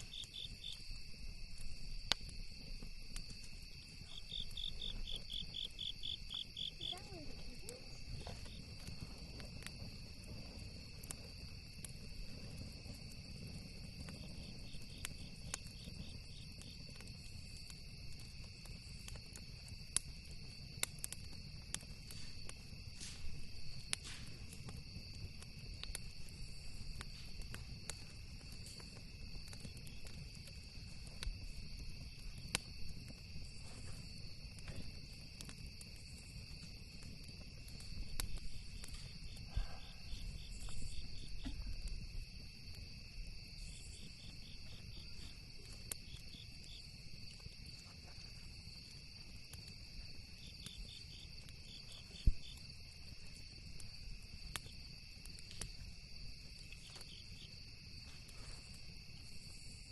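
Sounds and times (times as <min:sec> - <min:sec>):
campfire crackling and popping: 0:00.0 - 0:59.9
crickets and insects trilling: 0:00.0 - 0:59.9.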